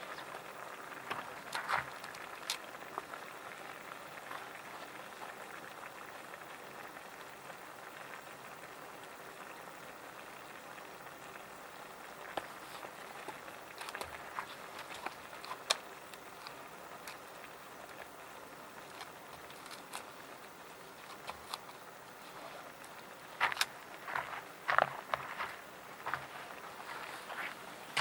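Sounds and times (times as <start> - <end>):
camp stove fire hissing: 0.0 - 28.0
fire crackles: 0.0 - 28.0.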